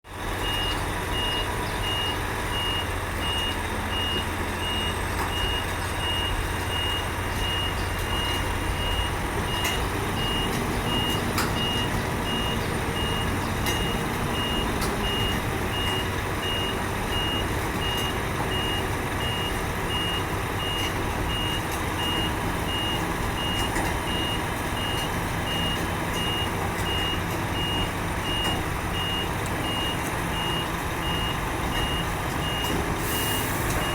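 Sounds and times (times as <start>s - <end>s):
diesel machinery running: 0.1s - 33.9s
reversing warning beeper: 0.4s - 33.9s.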